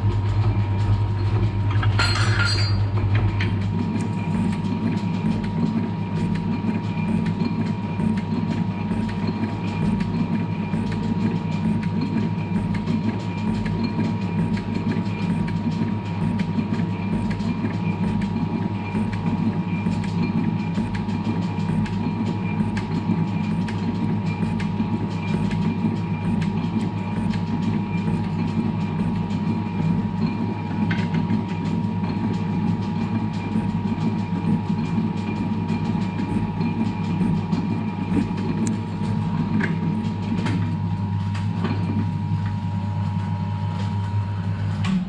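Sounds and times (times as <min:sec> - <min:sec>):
machine tool whining and humming: 0:00.0 - 0:45.0.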